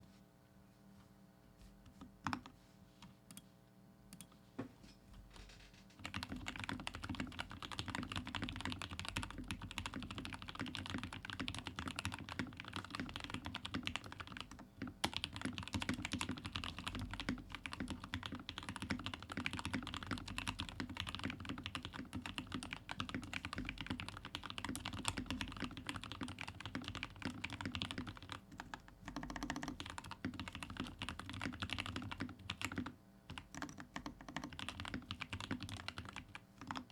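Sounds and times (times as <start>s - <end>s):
mechanical keyboard typing: 6.0s - 36.9s.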